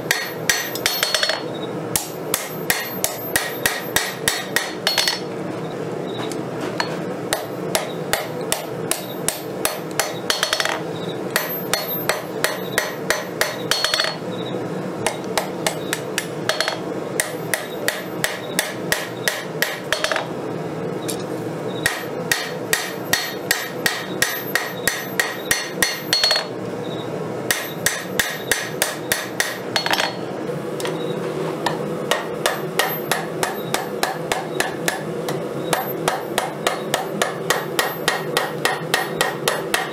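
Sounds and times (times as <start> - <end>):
hammer ringing on anvil: 0.0 - 5.3, 6.8 - 10.8, 11.4 - 14.5, 15.1 - 20.3, 21.8 - 26.6, 27.5 - 30.2, 32.1 - 39.9
steady background noise: 0.0 - 39.9.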